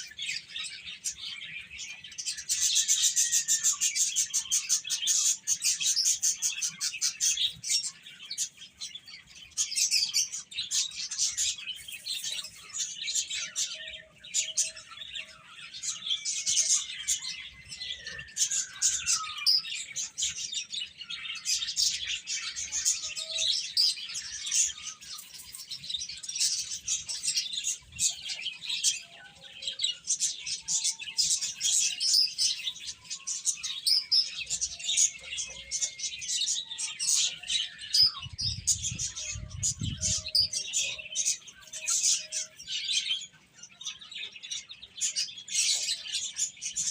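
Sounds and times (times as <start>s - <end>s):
baby chicks peeping: 0.0s - 46.9s.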